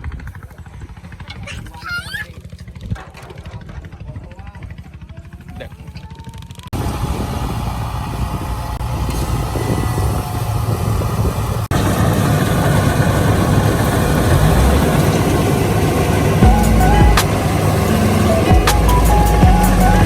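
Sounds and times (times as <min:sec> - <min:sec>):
farm machine engine rumbling: 0:00.2 - 0:20.0.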